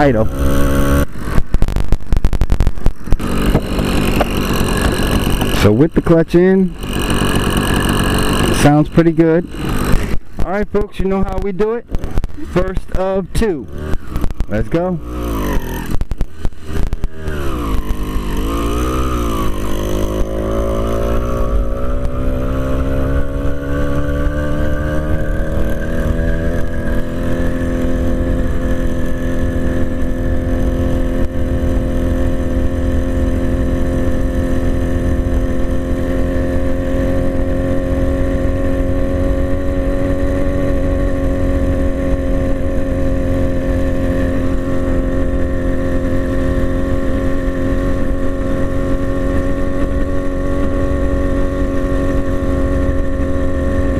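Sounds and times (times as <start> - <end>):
two-stroke bicycle engine revving: 0.0 - 53.9.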